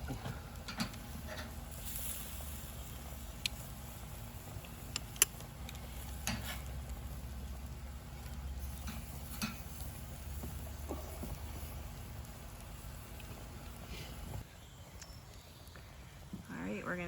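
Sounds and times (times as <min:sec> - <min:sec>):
meat sizzling on a grill: 0:00.0 - 0:14.4
fire crackles: 0:00.0 - 0:17.0
low steady rumble: 0:00.0 - 0:17.0.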